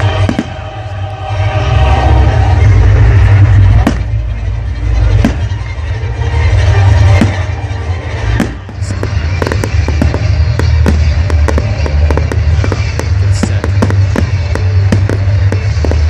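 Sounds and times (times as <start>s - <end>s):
fireworks bangs and cracks: 0.0s - 0.9s, 2.0s - 16.0s
loud music with heavy bass: 0.0s - 16.0s.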